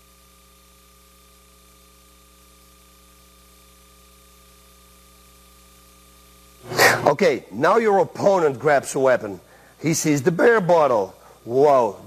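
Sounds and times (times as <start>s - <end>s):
faint electrical hum: 0.0s - 12.0s
low hiss: 0.0s - 12.0s.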